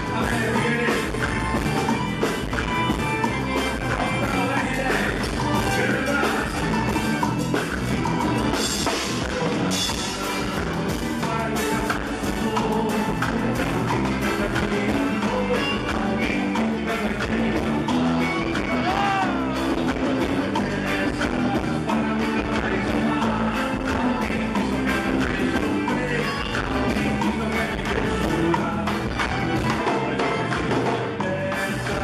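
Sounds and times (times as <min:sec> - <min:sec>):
drum beat: 0:00.0 - 0:32.0
live band playing amplified music: 0:00.0 - 0:32.0
man singing: 0:00.0 - 0:32.0.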